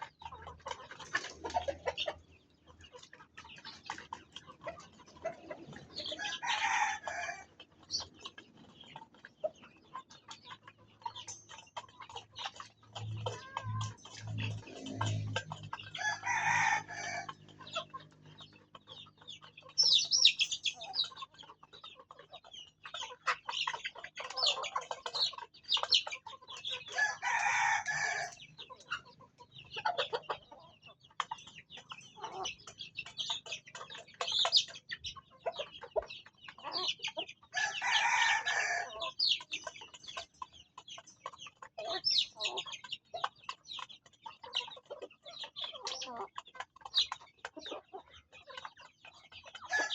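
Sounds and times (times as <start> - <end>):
chicken drawn-out calls: 0.0 - 49.9
chickens clucking: 0.0 - 49.9.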